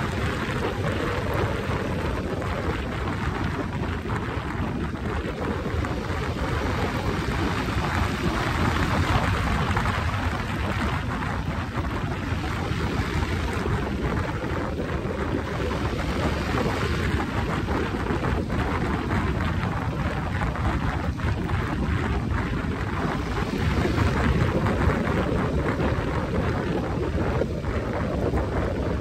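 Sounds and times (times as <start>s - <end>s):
motorcycle running: 0.0s - 29.0s
road noise: 0.0s - 29.0s
wind buffeting microphone: 0.0s - 29.0s.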